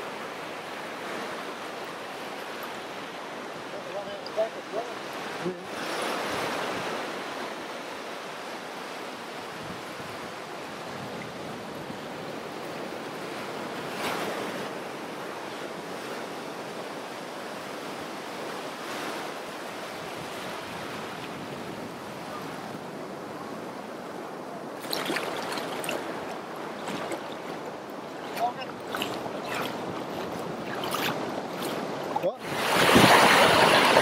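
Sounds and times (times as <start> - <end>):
surf washing on beach: 0.0 - 34.0.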